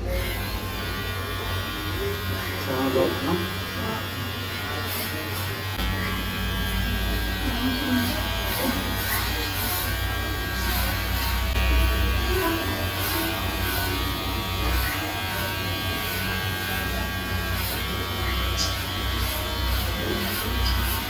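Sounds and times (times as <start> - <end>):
electric hair clippers buzzing: 0.0 - 21.0.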